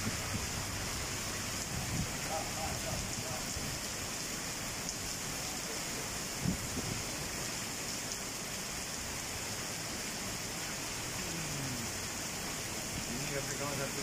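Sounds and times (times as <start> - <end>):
heavy rain on wet paving: 0.0 - 14.0.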